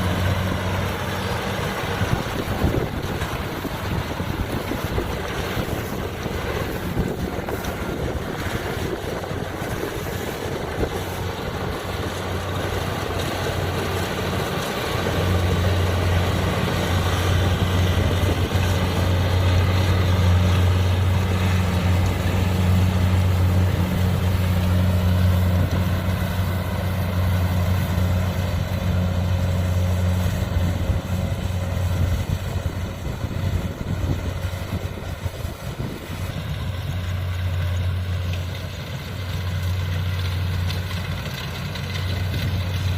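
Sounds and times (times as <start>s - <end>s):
combine harvester engine droning: 0.0s - 42.9s.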